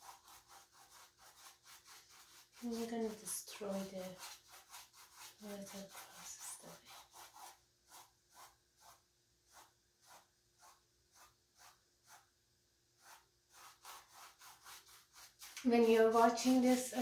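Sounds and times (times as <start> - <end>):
paintbrush strokes on canvas: 0.0 - 12.4, 13.0 - 17.0.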